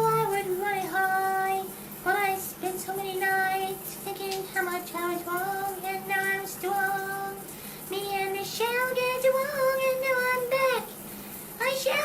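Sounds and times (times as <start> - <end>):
high voice singing wordless melody: 0.0 - 11.0, 11.6 - 12.0.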